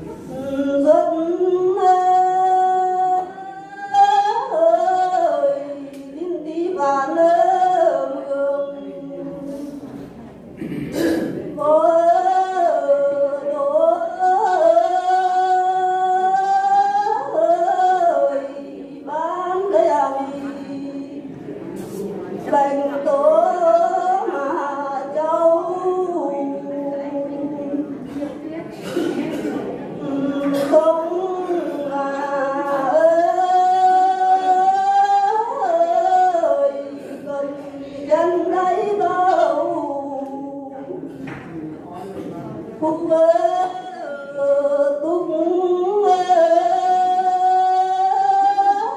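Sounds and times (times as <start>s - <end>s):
woman singing unaccompanied: 0.0s - 9.6s, 11.5s - 21.4s, 22.3s - 28.2s, 28.8s - 41.1s, 42.8s - 48.9s.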